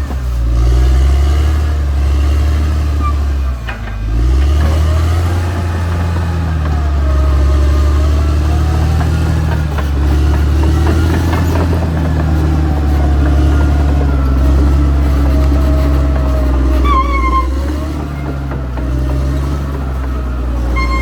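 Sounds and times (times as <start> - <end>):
bulldozer diesel engine: 0.0 - 21.0.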